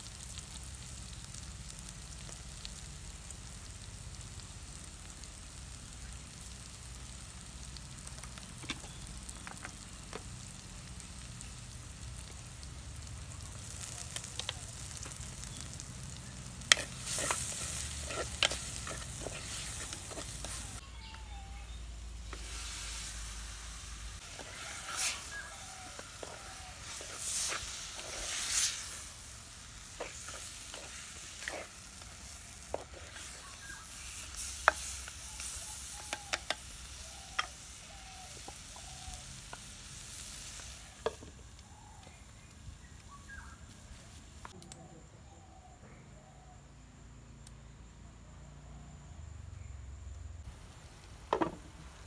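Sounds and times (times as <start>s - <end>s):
food sizzling in oil: 0.0s - 44.5s.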